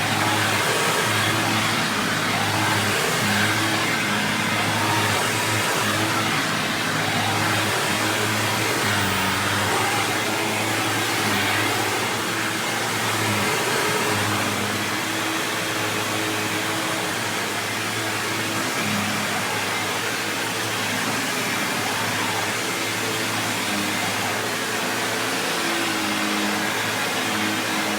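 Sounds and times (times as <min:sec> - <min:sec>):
upright vacuum cleaner running: 0:00.0 - 0:27.9.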